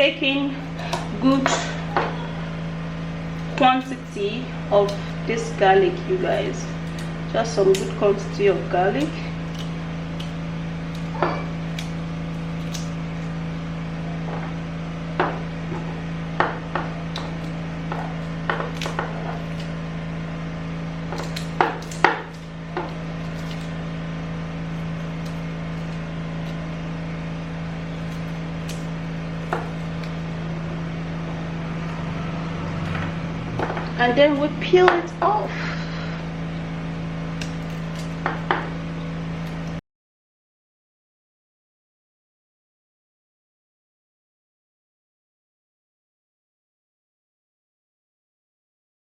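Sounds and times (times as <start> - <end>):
steady low hum: 0.0 - 39.8.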